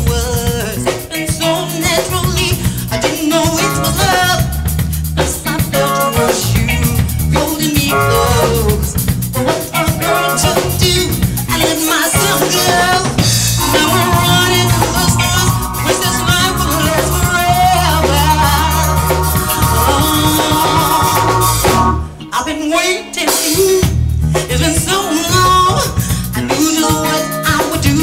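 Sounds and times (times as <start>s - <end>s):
woman singing lead: 0.0s - 4.6s, 5.2s - 28.0s
drum kit: 0.0s - 22.3s, 23.2s - 28.0s
electric bass: 0.0s - 22.6s, 23.5s - 28.0s
guitar: 0.0s - 28.0s
keyboard: 0.0s - 28.0s.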